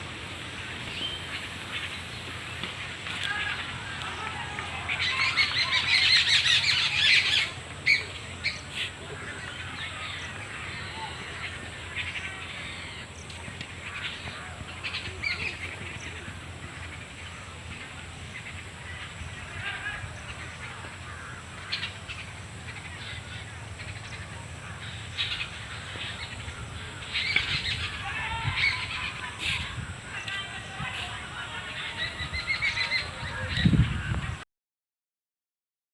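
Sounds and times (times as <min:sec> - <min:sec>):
birds chirping and calling: 0:00.0 - 0:34.4.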